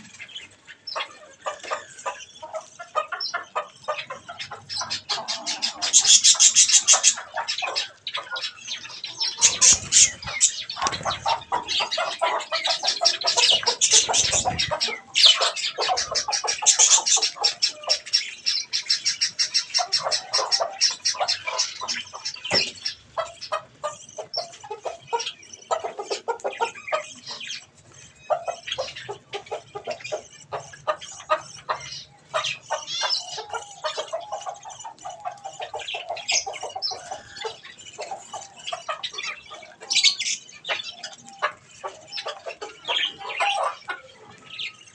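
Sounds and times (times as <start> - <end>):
budgerigars chattering and chirping: 0.0 - 44.9
lower bird calls: 0.0 - 44.9.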